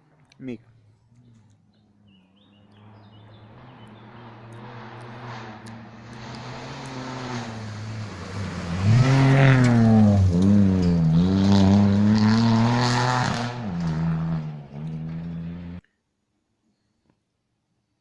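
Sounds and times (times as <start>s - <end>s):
rally car passing at full throttle: 1.1s - 15.8s.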